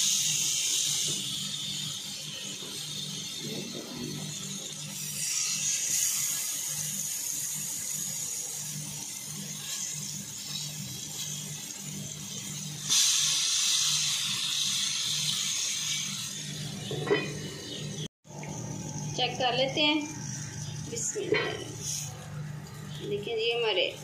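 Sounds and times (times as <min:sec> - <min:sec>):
eggplants sizzling in oil: 0:00.0 - 0:24.0.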